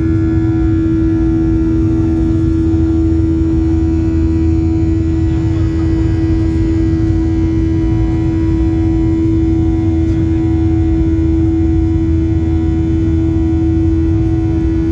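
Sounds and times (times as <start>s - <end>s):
jet engines humming in cabin: 0.0s - 14.9s.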